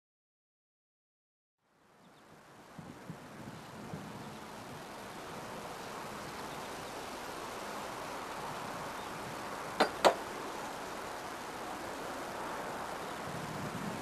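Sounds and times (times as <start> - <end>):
outdoor background noise: 1.6 - 14.0.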